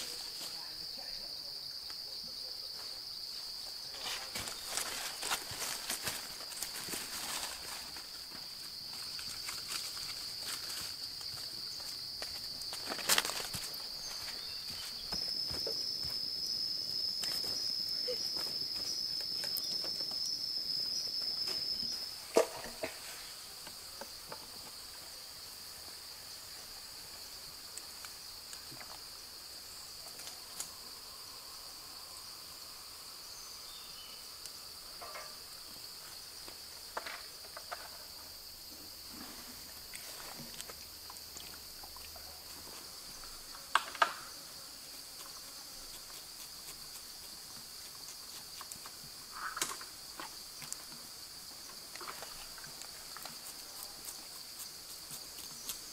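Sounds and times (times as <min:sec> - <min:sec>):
insects shrilling: 0:00.0 - 0:55.9.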